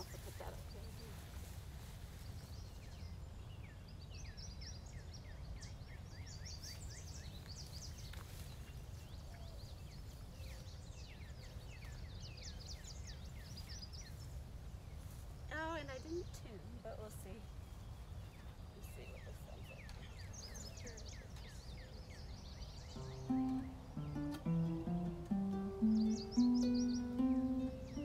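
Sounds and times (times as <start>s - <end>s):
birds chirping: 0.0s - 1.3s, 2.2s - 28.0s.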